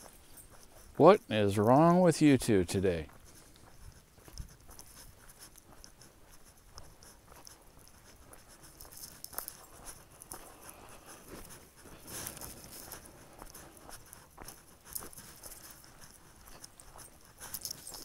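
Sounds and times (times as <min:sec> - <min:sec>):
footsteps on leaves and dirt: 0:02.8 - 0:18.0.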